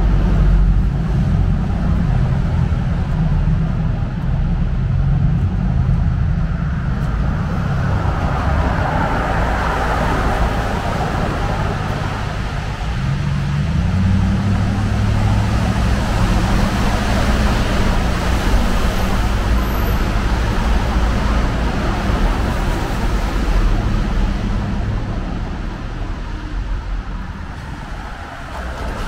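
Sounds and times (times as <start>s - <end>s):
low engine hum: 0.0s - 29.0s
traffic on wet road: 0.0s - 29.0s.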